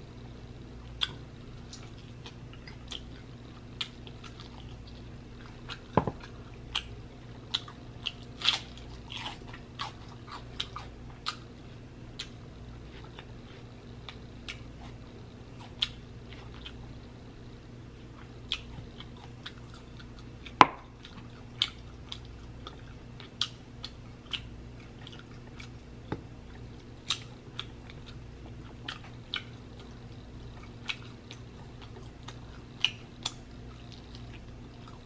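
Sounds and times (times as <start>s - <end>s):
faint low hum: 0.0s - 35.0s
chewing sticky ribs: 0.8s - 35.0s.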